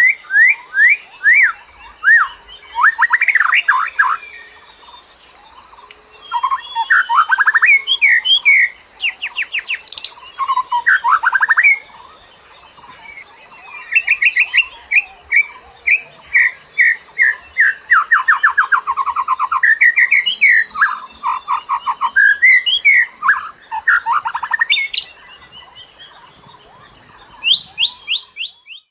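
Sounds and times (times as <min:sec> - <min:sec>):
songbird chirping and trilling: 0:00.0 - 0:28.9.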